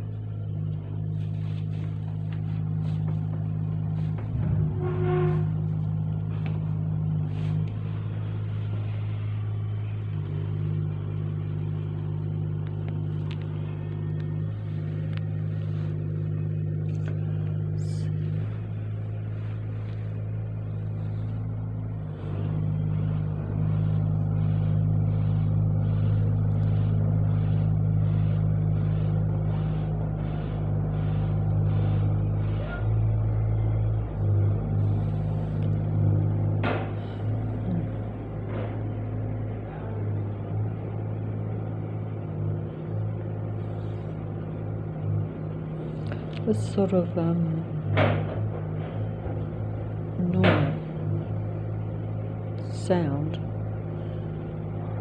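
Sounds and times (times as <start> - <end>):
low mechanical drone: 0.0 - 55.0.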